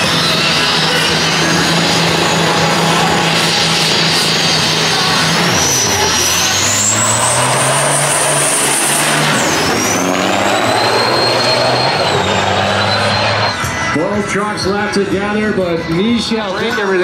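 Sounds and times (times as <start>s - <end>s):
diesel truck engines revving: 0.0s - 15.6s
high turbo whine: 0.0s - 16.7s.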